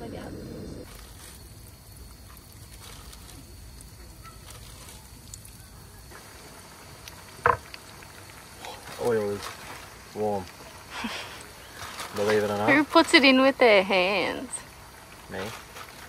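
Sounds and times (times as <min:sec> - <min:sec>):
fish sizzling in oil: 0:01.0 - 0:16.0.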